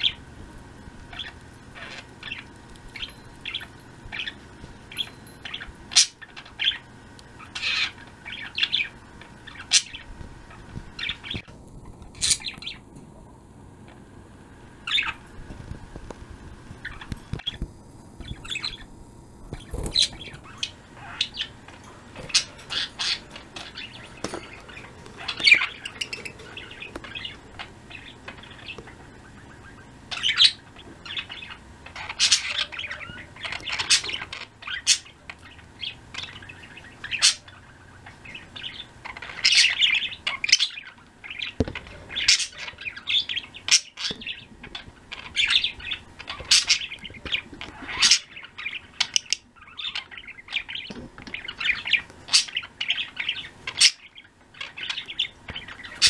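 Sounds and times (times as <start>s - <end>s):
budgerigars chirping: 0.0s - 0.2s, 1.1s - 11.5s, 12.1s - 12.9s, 14.8s - 15.3s, 16.8s - 17.6s, 18.2s - 18.9s, 19.5s - 56.0s.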